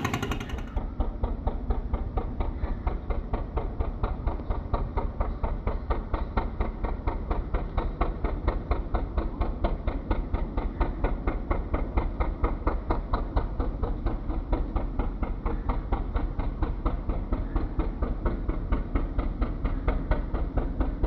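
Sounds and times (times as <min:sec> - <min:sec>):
boat engine knocking: 0:00.0 - 0:21.0.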